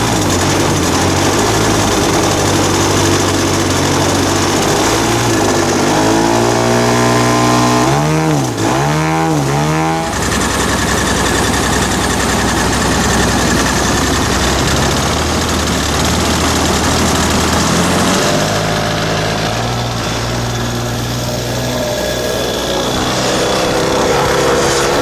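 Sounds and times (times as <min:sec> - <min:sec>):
model airplane engine and propeller: 0:00.0 - 0:25.0.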